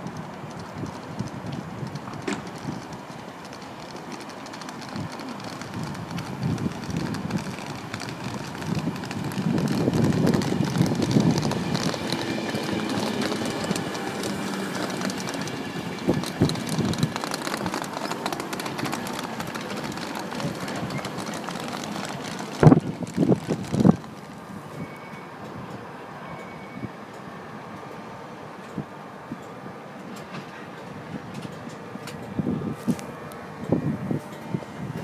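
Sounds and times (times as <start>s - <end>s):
train wheels rumbling on rails: 0.0s - 26.5s, 28.3s - 35.0s.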